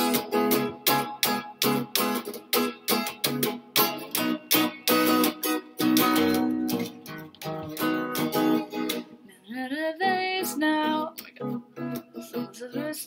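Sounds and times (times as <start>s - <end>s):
electric guitar strumming chords: 0.0s - 9.3s, 10.0s - 13.0s.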